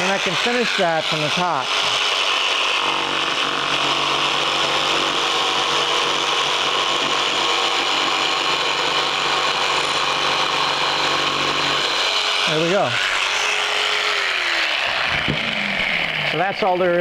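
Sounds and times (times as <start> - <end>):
jigsaw cutting wood: 0.0 - 16.5.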